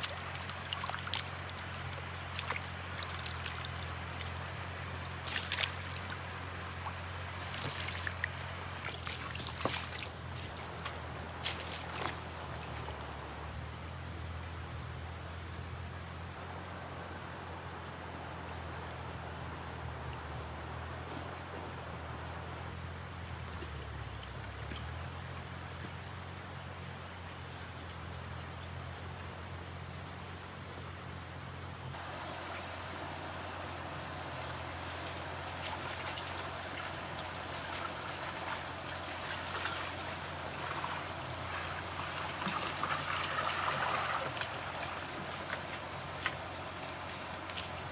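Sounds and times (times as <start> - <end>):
water trickling and splashing: 0.0 - 47.9.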